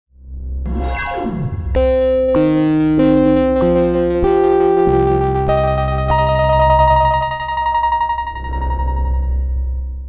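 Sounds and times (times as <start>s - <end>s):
modular synthesizer tones: 0.6s - 9.8s.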